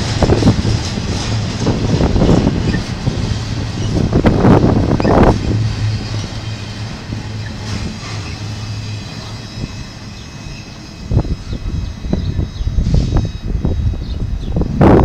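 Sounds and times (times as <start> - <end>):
train wheels clacking: 0.0 - 13.7
train rumbling: 0.0 - 15.0.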